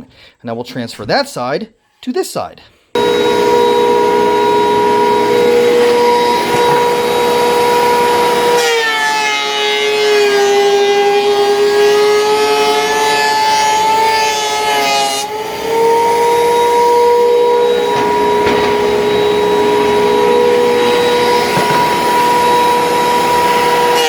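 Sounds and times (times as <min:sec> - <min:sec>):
thickness planer cutting wood: 0:03.0 - 0:24.0.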